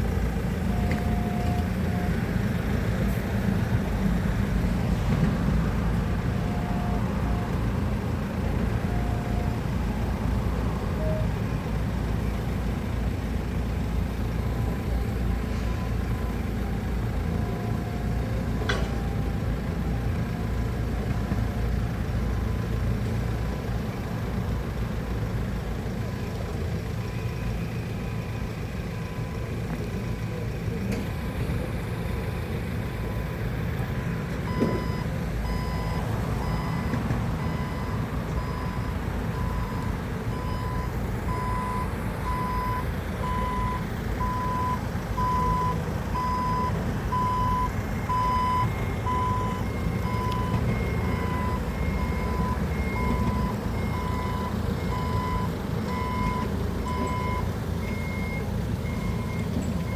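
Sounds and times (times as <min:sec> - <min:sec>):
heavy equipment engine rumbling: 0:00.0 - 0:59.9.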